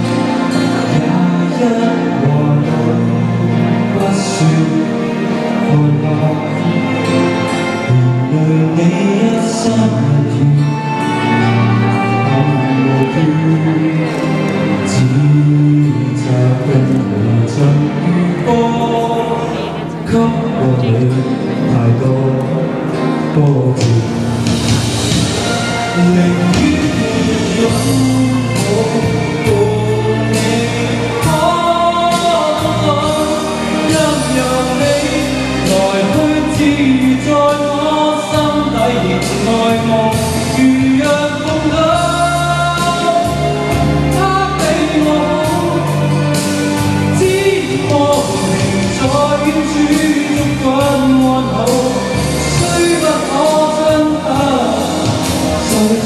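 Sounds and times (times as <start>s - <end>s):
backing music with beat: 0.0s - 56.0s
man singing into microphone: 0.0s - 56.0s.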